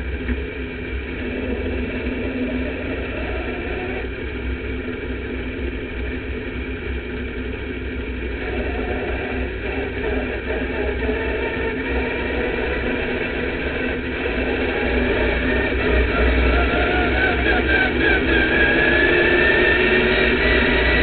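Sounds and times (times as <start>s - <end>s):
race car engine rumbling: 0.0s - 21.0s.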